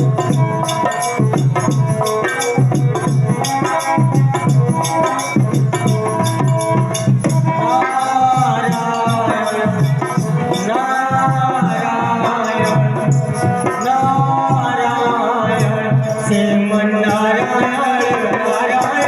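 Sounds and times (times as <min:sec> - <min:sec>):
music with steady beat: 0:00.0 - 0:19.0.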